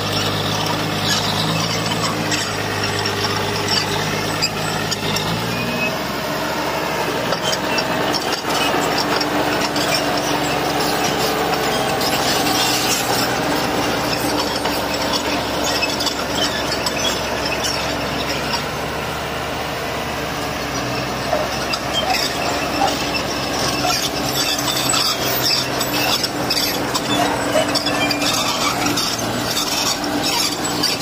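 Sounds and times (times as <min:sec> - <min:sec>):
bulldozer diesel engine: 0:00.0 - 0:31.0
metallic squeals and scraping: 0:00.0 - 0:31.0.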